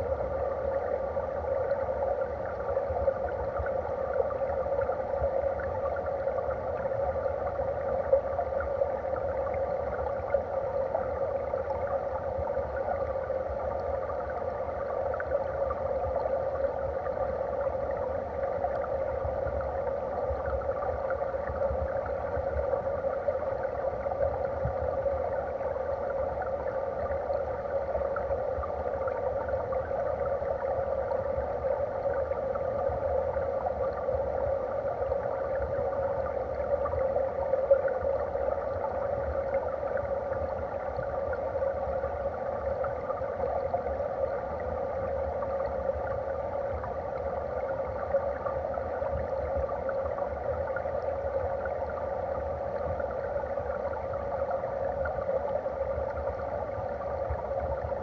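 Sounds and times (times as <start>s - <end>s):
stream water rushing underwater: 0.0s - 58.0s.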